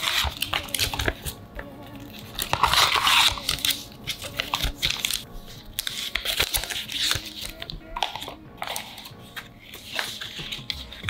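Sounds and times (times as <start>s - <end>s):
paper packaging rustling: 0.0s - 11.0s
soft background music: 0.0s - 11.0s.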